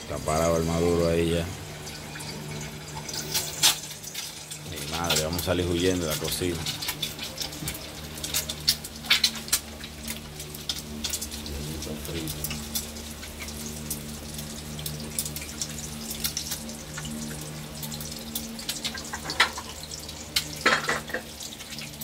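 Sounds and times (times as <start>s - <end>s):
egg frying in oil: 0.0s - 22.0s.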